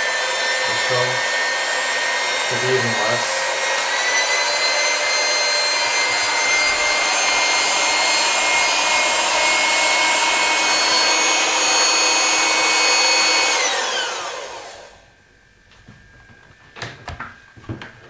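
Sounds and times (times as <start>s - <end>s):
electric hand mixer whining: 0.0s - 15.1s.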